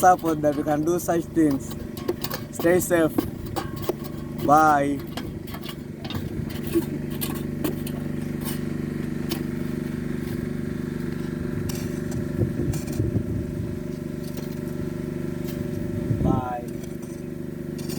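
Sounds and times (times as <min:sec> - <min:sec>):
motor humming: 0:00.0 - 0:17.9.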